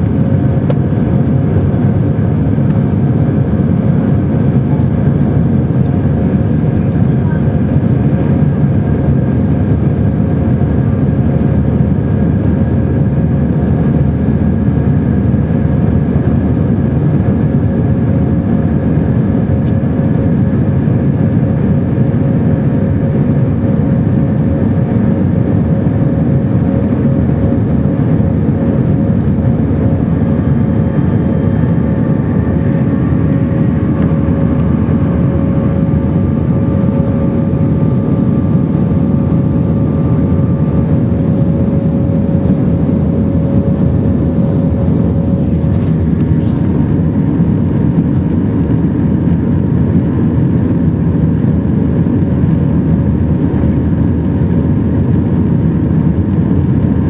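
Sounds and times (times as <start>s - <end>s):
faint steady engine tones: 0.0s - 57.0s
jet engine and airflow rush: 0.0s - 57.0s.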